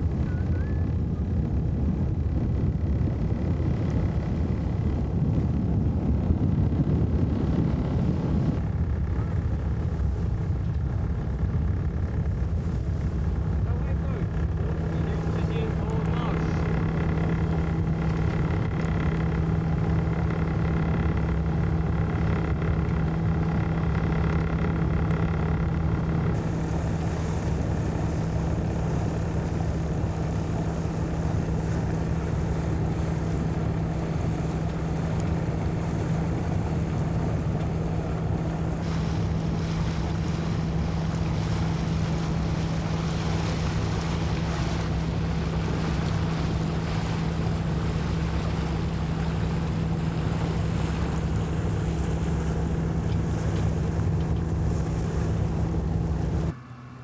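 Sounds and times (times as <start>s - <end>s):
boat engine humming: 0.0s - 57.0s
water washing along hull: 0.0s - 57.0s
wind on microphone: 0.0s - 57.0s.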